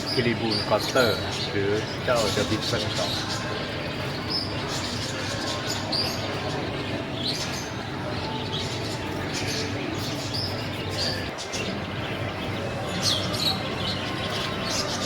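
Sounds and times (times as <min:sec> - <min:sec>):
canaries chirping: 0:00.0 - 0:15.0
steady background noise: 0:00.0 - 0:15.0.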